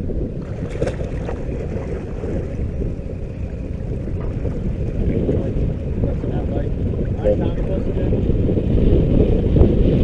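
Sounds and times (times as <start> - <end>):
boat noise: 0.0 - 10.0
water: 0.0 - 10.0
wind buffeting microphone: 0.0 - 10.0.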